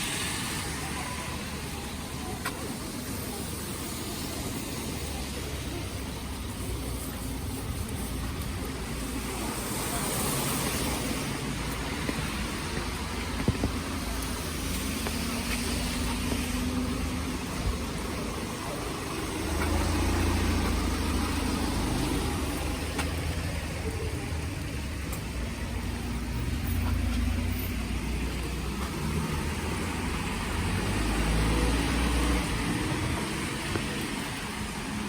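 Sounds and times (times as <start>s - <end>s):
car engines at low speed: 0.0s - 35.0s.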